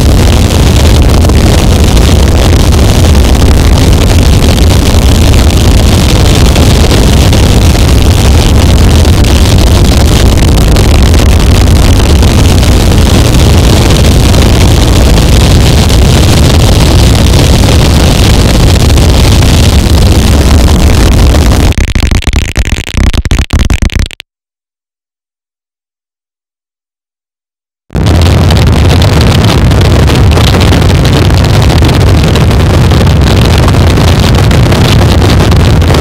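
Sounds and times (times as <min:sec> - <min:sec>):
distorted electronic noise: 0:00.0 - 0:24.2, 0:27.9 - 0:36.0.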